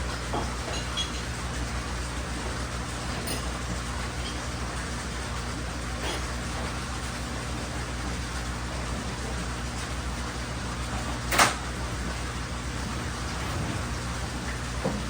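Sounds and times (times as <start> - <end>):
aquarium air pumps humming: 0.0 - 15.0.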